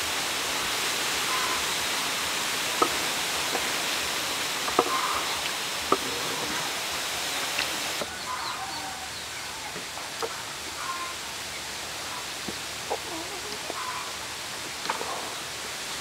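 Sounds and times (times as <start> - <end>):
steady background hiss: 0.0 - 16.0
small birds chirping: 2.6 - 15.6.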